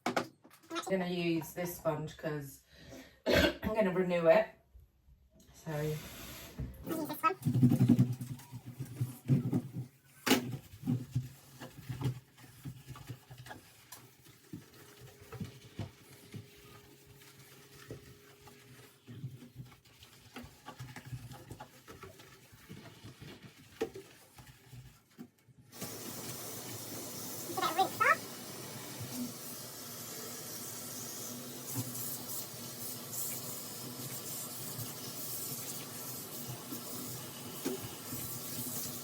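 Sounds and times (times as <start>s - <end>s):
sponge scrubbing a sink: 6.9s - 39.0s.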